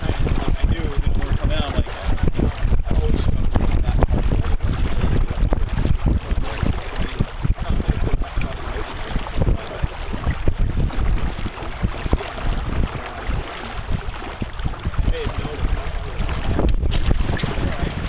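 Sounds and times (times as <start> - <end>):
hiss of wind and water: 0.0 - 18.0
wind buffeting microphone: 0.0 - 18.0.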